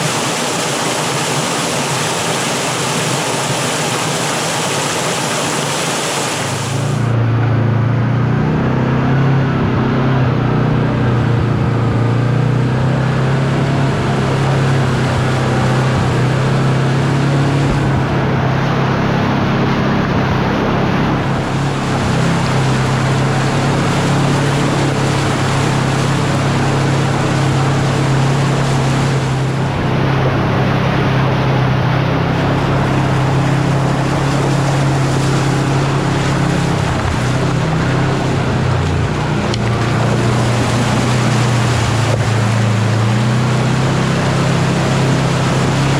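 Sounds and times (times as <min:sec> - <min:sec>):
utility vehicle engine droning: 0:00.0 - 0:45.9.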